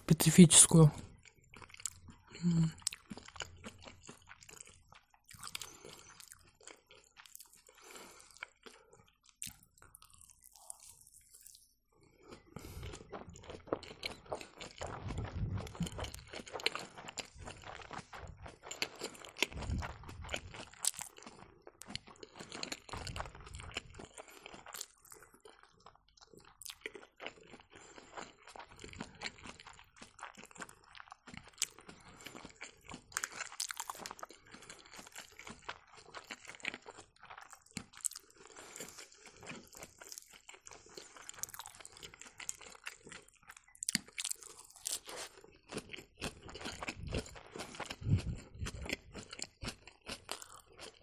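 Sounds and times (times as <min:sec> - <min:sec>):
chewing and crunching food: 0:00.0 - 0:51.0.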